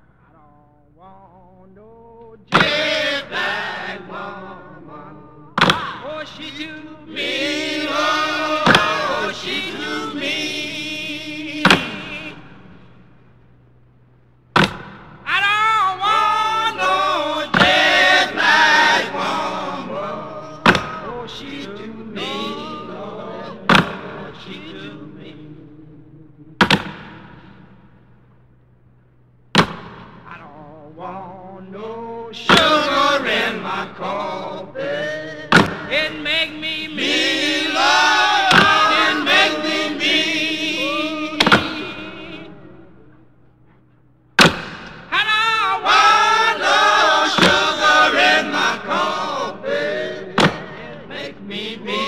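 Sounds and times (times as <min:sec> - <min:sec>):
song with sung vocals: 0:00.0 - 0:12.9, 0:14.6 - 0:27.6, 0:30.2 - 0:52.0.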